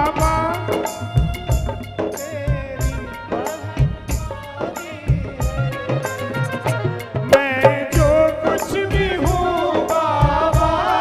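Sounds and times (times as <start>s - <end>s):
drum strokes: 0.0s - 11.0s.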